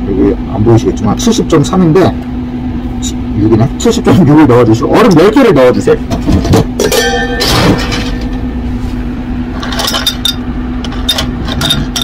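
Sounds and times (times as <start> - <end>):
low appliance hum: 0.0 - 12.0.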